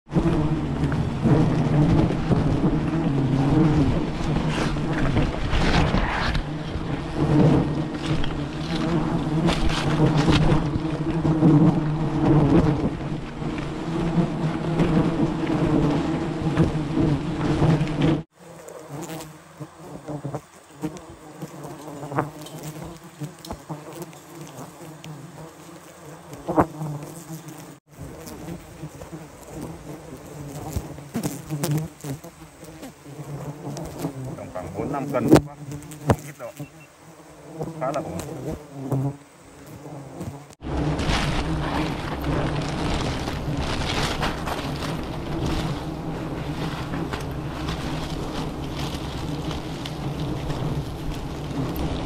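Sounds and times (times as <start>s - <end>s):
bees buzzing: 0.1s - 52.0s.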